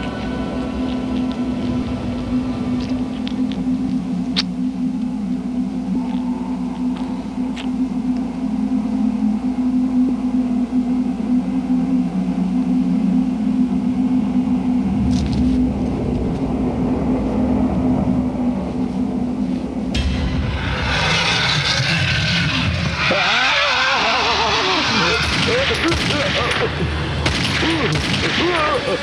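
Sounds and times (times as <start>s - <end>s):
rumbling low swell: 0.0s - 29.0s
steady low drone: 0.0s - 29.0s.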